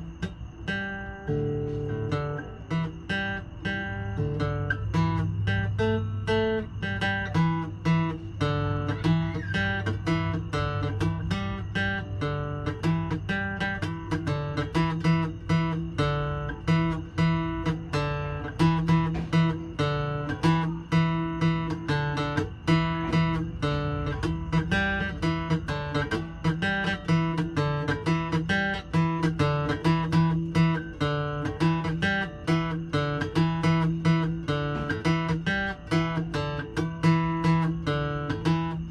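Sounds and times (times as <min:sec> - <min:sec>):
guitar strumming: 0:00.0 - 0:38.9.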